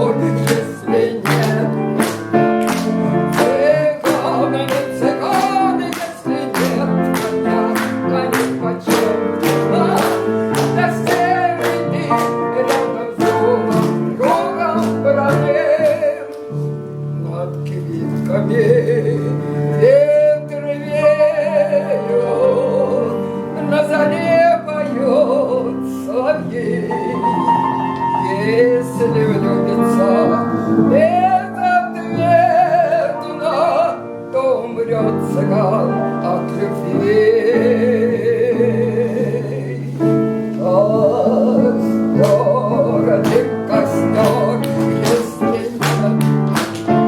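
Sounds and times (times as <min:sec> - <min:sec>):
woman singing with vibrato: 0:00.0 - 0:02.2, 0:03.0 - 0:16.4, 0:17.2 - 0:27.4, 0:28.2 - 0:40.0, 0:40.6 - 0:47.0
instrumental accompaniment: 0:00.0 - 0:47.0.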